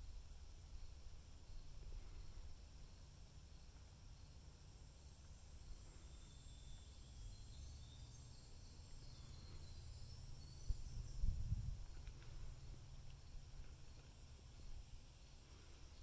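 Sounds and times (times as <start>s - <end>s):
low outdoor rumble: 0.0s - 16.0s
faint high chirps: 0.6s - 14.8s.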